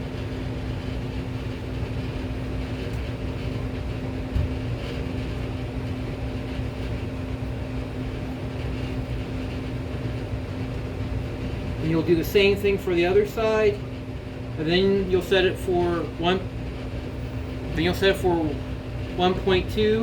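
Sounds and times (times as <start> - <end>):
low mechanical hum with pitched tone: 0.0 - 20.0.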